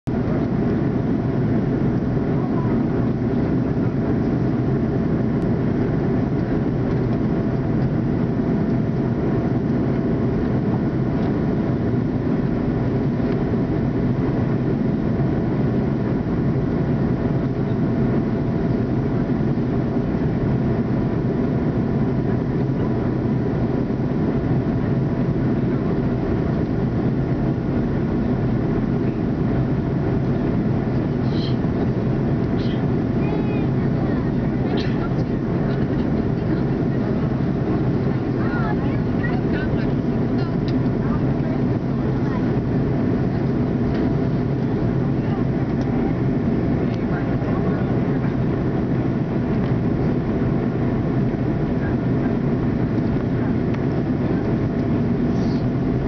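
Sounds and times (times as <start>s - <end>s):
airliner cabin engine rumble: 0.0s - 56.0s
faint constant hums: 0.1s - 56.0s.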